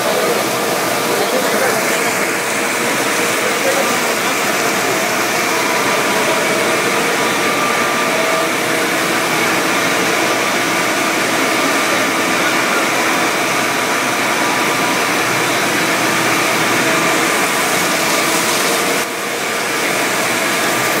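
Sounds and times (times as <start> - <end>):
loud machine noise: 0.0 - 21.0.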